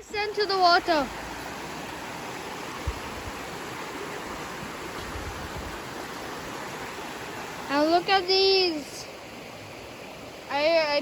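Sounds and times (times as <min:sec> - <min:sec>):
running water in a creek: 0:00.0 - 0:11.0.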